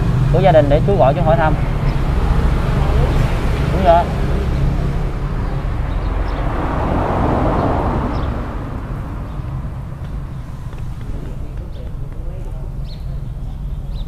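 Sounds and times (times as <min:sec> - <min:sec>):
road traffic rumbling: 0:00.0 - 0:14.0
vehicle passing: 0:00.0 - 0:14.0.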